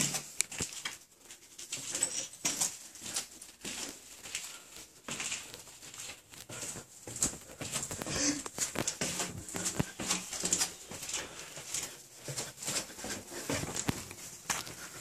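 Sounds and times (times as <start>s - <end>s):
footsteps on stone stairs: 1.7s - 15.0s.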